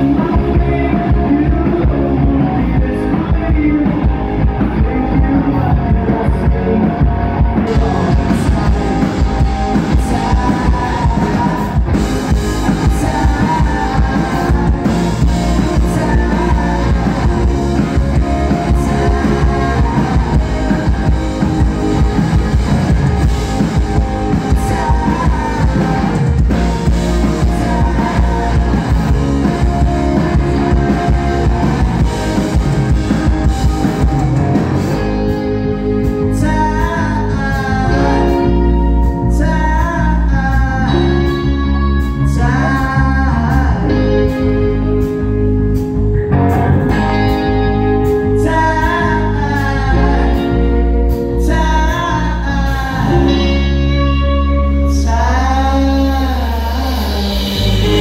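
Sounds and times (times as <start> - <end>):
man singing: 0.0 - 32.6, 35.3 - 44.8, 48.2 - 58.0
live rock band playing: 0.0 - 58.0.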